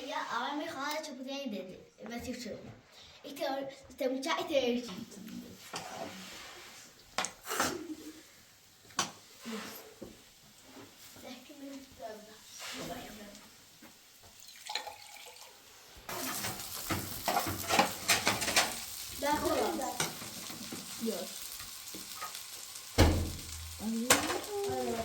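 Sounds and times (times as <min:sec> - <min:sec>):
food sizzling in a pan: 0:04.8 - 0:25.0.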